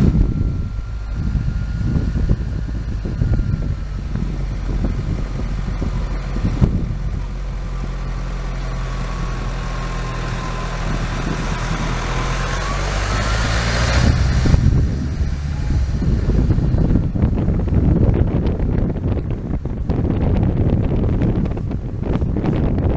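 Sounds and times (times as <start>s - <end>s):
rushing noise: 0.0s - 22.9s
thin whine: 0.0s - 22.9s
vehicle engine running: 0.0s - 22.9s.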